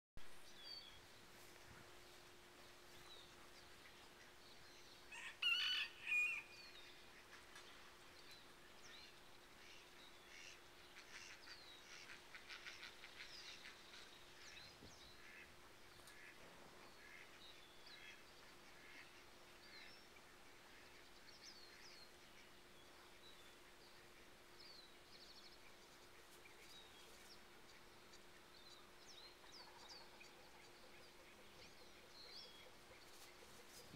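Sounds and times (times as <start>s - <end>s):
faint steady hum: 0.2s - 33.9s.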